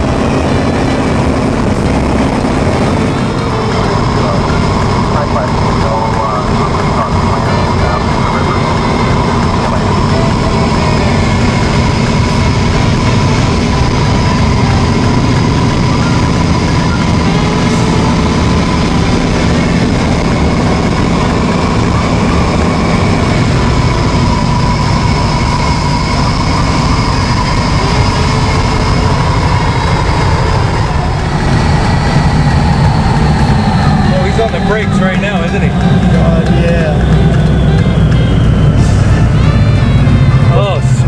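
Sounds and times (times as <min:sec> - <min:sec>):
propeller plane engine running: 0:00.0 - 0:41.0.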